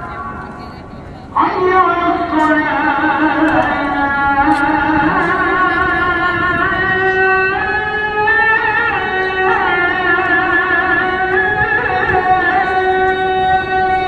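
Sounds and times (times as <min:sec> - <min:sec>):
man chanting call to prayer: 0:00.0 - 0:14.0.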